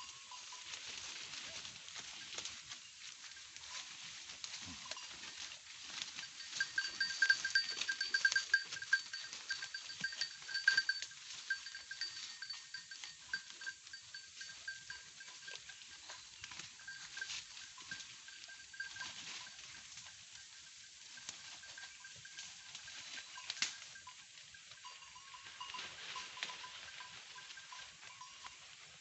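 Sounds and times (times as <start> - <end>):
goats rustling in undergrowth: 0.0 - 29.0.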